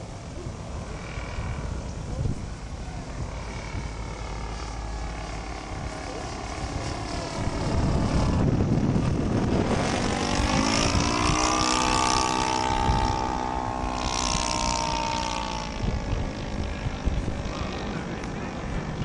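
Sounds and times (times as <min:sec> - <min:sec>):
airplane engine and propeller: 0:00.0 - 0:19.0.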